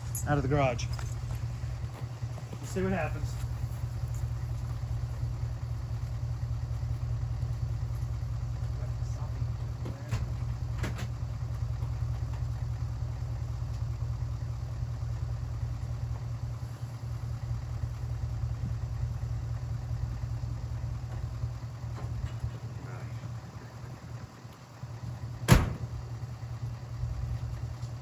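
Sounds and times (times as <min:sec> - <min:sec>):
low engine drone: 0:00.0 - 0:28.0.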